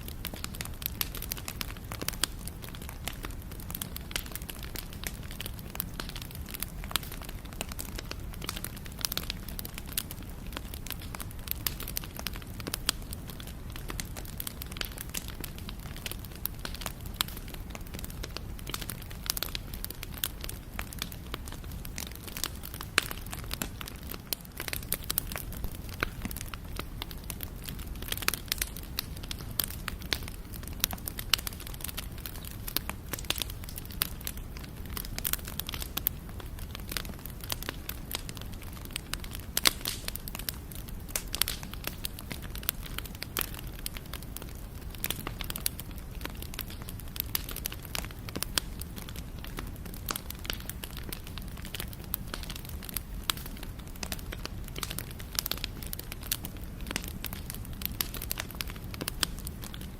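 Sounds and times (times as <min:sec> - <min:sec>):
campfire crackling and popping: 0:00.0 - 0:59.9
low fire rumble: 0:00.0 - 0:59.9.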